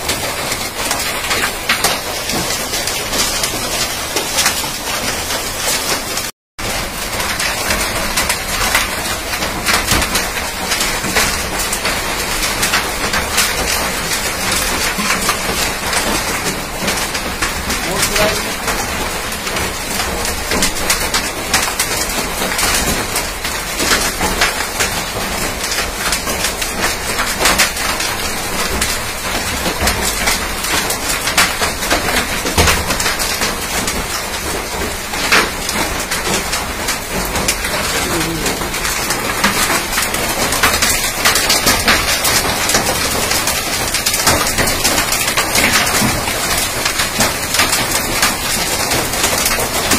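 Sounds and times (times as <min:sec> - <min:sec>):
hail clattering on hard surfaces: 0:00.0 - 0:49.9
hiss of heavy hail: 0:00.0 - 0:49.9.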